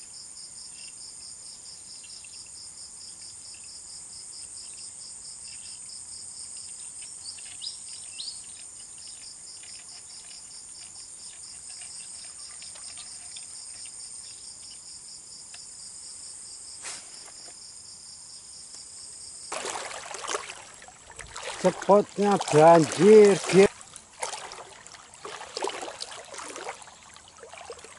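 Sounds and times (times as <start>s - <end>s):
insects trilling: 0.6s - 27.9s.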